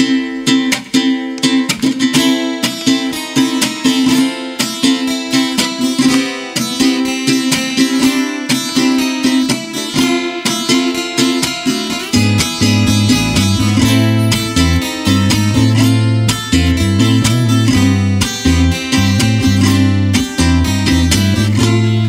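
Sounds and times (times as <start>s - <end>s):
ukulele and acoustic guitar: 0.0s - 22.0s.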